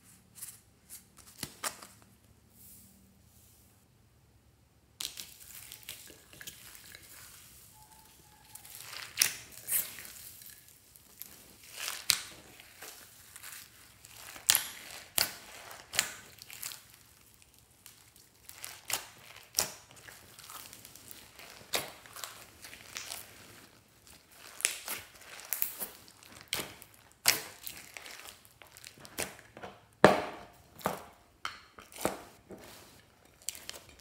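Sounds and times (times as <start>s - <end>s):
hands kneading crunchy slime: 5.0s - 31.1s, 31.8s - 34.0s.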